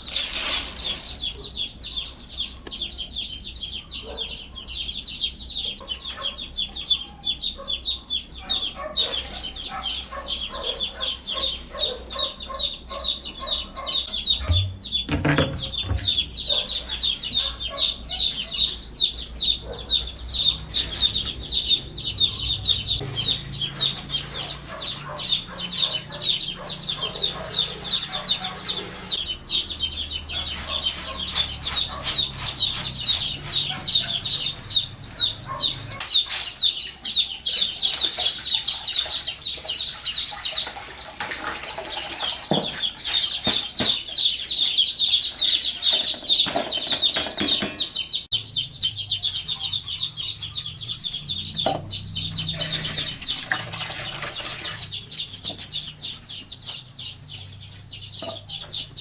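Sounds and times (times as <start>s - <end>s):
chickens clucking and peeping: 0.0s - 59.0s.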